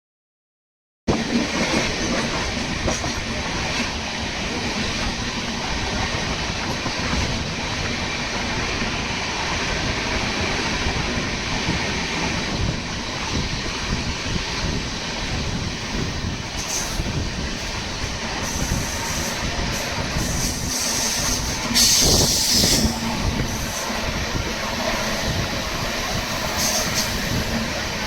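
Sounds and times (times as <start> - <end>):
train running past: 1.1 - 28.0.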